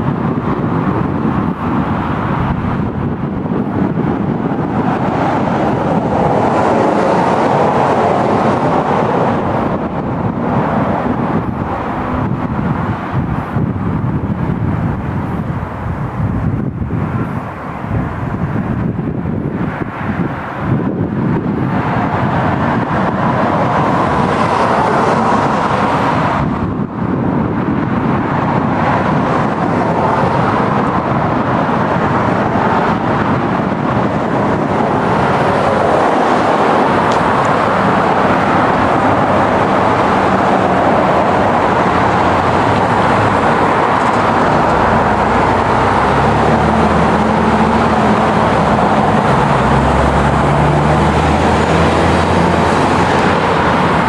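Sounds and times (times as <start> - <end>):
low engine hum: 0.0 - 54.0
rushing vehicle noise: 0.0 - 54.0.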